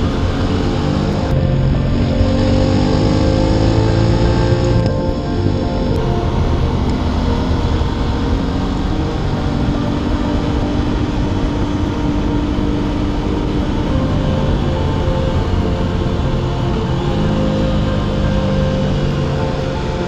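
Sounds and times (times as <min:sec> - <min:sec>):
motorcycle engine running: 0:00.0 - 0:20.0
wind rush: 0:00.0 - 0:20.0.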